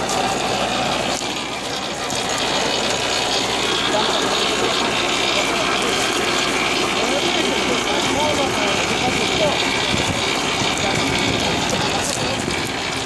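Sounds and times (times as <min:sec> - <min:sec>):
potato digger chains and gears clattering: 0:00.0 - 0:13.0.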